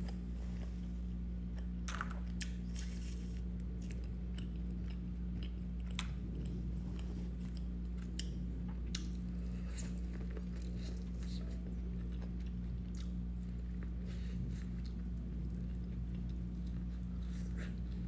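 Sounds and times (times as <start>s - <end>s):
chewing seafood: 3.4s - 18.0s.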